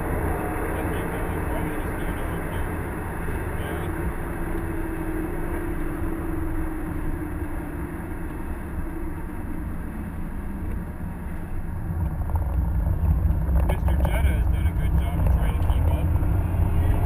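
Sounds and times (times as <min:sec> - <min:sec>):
car engine drone: 0:00.0 - 0:17.0
tyre and road noise: 0:00.0 - 0:17.0.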